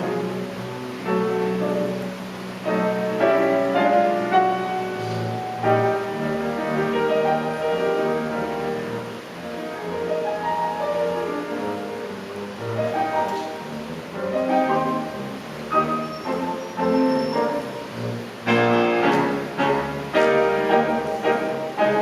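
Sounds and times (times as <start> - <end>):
orchestra playing: 0.0 - 22.0
piano notes: 0.0 - 22.0.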